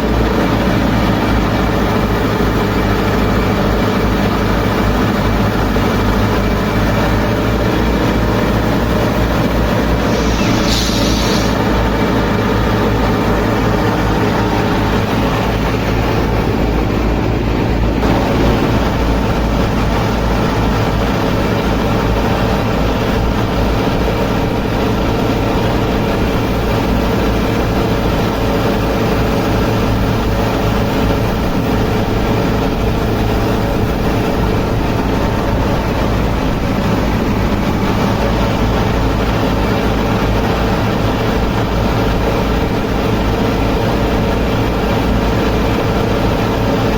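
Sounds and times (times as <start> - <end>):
threshing machine motor rattling: 0.0 - 46.9.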